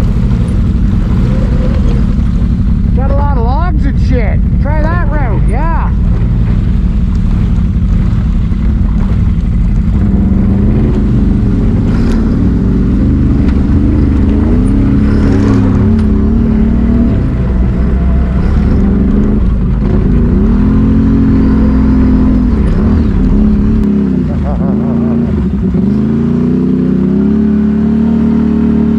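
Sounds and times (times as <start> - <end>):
atv engine revving: 0.0 - 28.9.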